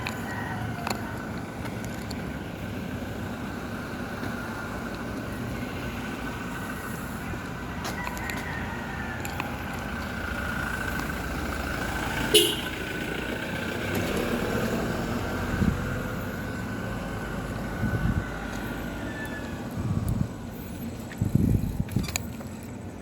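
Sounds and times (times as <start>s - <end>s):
road and vehicle noise: 0.0s - 23.0s.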